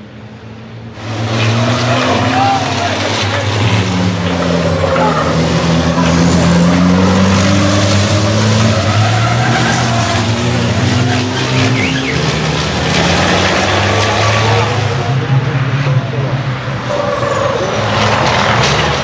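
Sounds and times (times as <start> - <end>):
racing truck engines driving past: 0.0 - 19.0.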